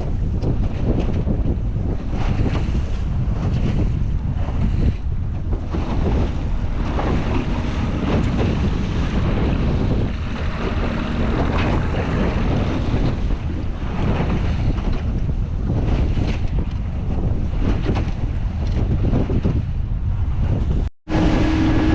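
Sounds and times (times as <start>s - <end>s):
water around boat: 0.0s - 21.9s
wind buffeting microphone: 0.0s - 21.9s.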